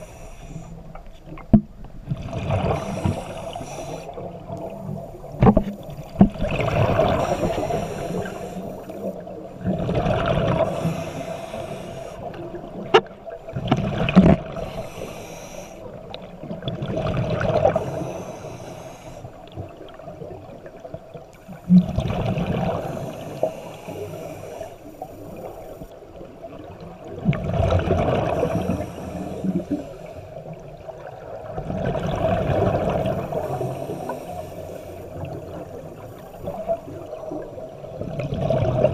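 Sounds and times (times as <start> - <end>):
exhaled bubbles underwater: 1.2 - 15.2, 15.8 - 18.4, 19.4 - 38.9.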